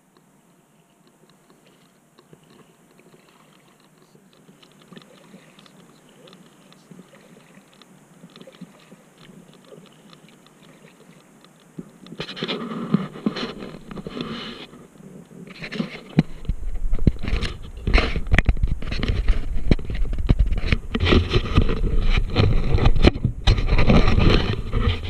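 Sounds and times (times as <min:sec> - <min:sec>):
water lapping against hull: 0:00.7 - 0:25.0.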